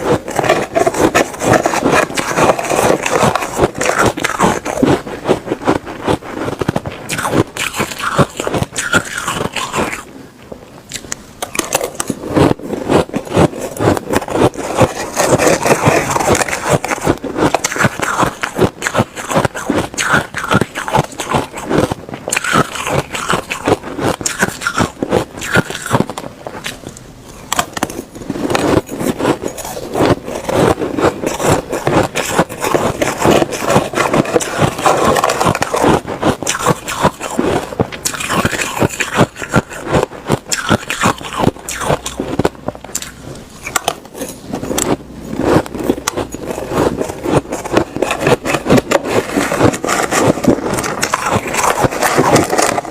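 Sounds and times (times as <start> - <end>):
ice being chewed: 0.0 - 52.9.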